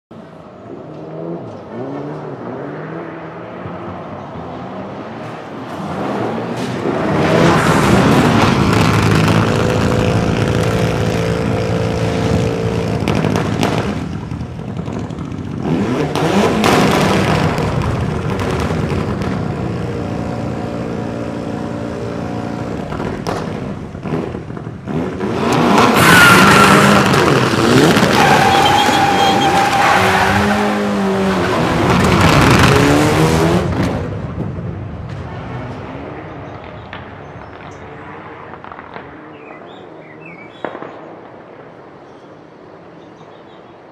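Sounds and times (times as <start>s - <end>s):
rally car engine revving: 0.7s - 40.4s.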